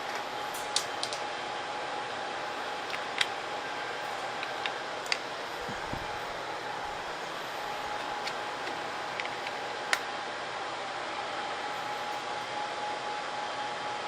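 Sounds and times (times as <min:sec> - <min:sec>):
fan and airflow noise: 0:00.0 - 0:14.0.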